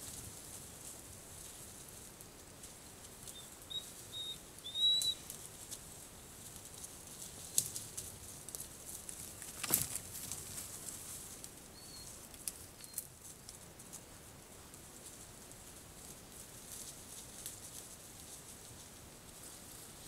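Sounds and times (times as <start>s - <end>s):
animals rustling through undergrowth: 0.0s - 20.0s.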